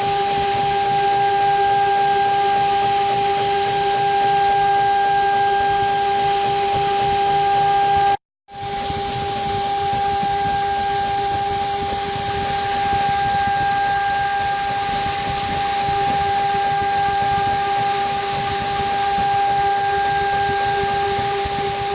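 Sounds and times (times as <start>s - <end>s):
router spindle whining carving wood: 0.0s - 21.9s.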